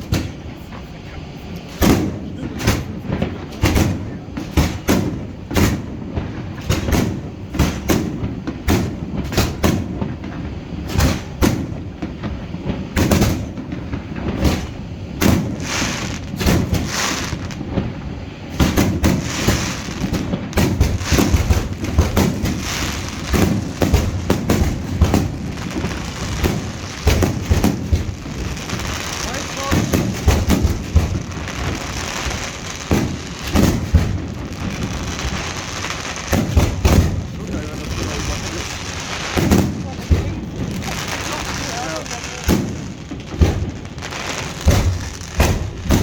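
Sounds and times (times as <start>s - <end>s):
fireworks bursts and bangs: 0.0s - 46.0s
hissing crackle of fireworks: 0.0s - 46.0s.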